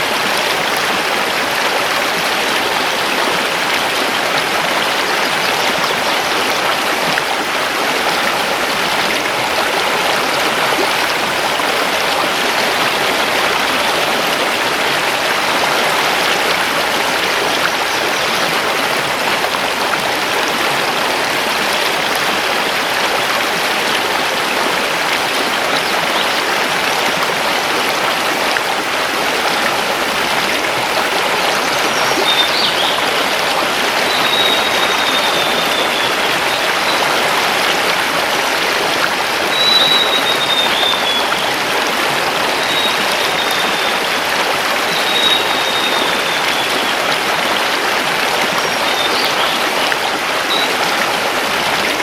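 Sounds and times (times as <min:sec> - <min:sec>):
river running over stones: 0:00.0 - 0:52.0.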